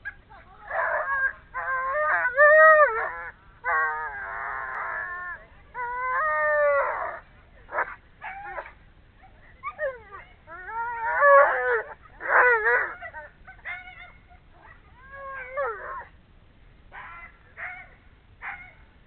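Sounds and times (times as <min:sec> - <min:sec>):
dog yowling and whining: 0:00.0 - 0:16.1.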